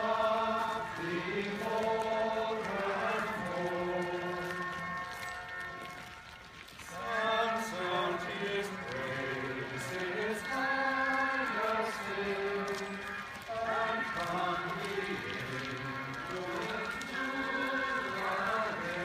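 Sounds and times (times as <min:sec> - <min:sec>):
voices chanting in unison: 0:00.0 - 0:05.0, 0:06.9 - 0:19.0.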